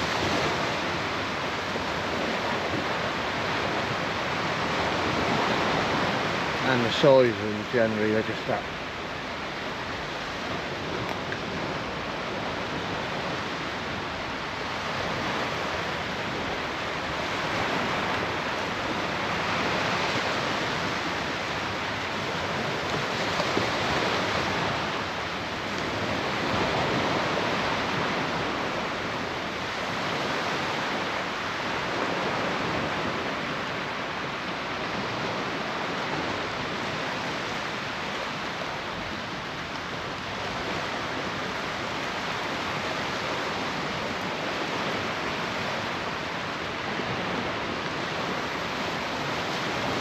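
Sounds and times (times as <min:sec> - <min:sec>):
surf washing onto beach: 0:00.0 - 0:50.0.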